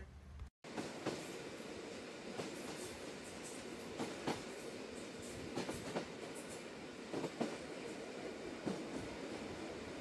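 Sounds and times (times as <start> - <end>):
trolley train rumbling: 0.7 - 10.0.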